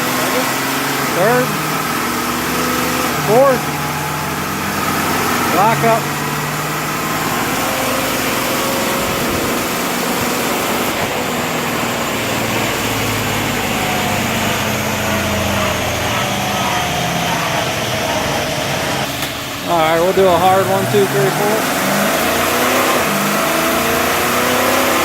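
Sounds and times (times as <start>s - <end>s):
transmission whining and humming: 0.0s - 25.0s.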